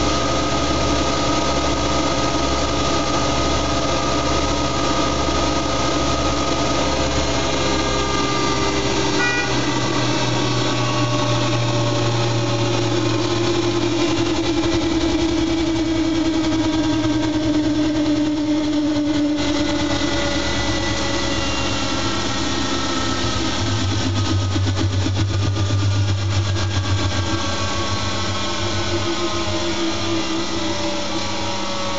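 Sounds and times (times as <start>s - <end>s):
washing machine humming and whining: 0.0s - 31.9s.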